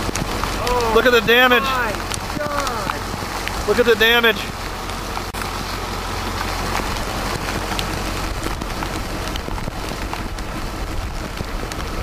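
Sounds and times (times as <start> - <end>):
low steady rumble: 0.0 - 12.0
rain falling on a vehicle: 0.0 - 12.0.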